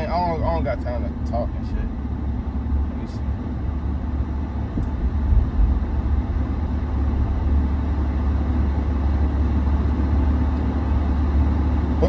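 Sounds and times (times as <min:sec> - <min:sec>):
car engine rumbling inside cabin: 0:00.0 - 0:12.0.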